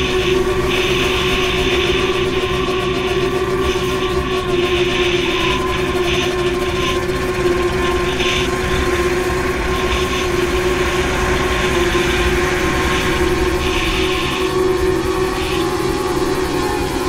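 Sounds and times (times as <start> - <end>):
music with sustained tones: 0.0 - 17.0.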